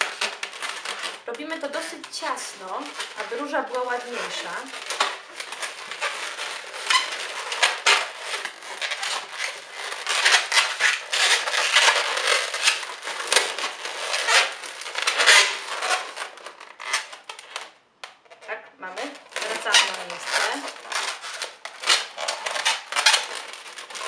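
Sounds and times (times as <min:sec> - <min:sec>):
balloon squeaking while twisted: 0:00.0 - 0:24.0.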